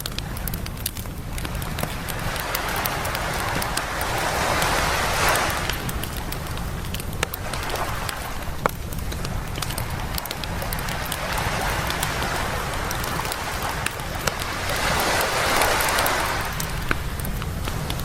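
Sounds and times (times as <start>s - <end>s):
campfire crackling and popping: 0.0s - 18.0s
waves washing on beach: 0.0s - 18.0s.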